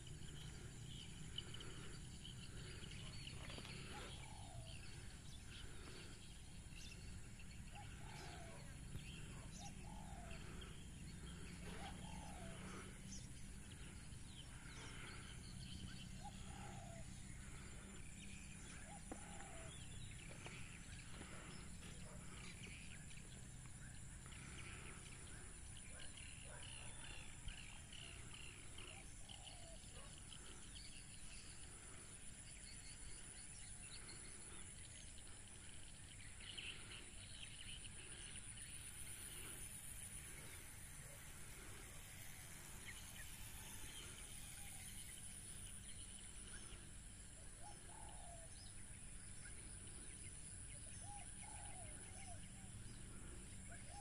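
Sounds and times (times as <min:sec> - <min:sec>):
birds calling: 0:00.0 - 0:54.0.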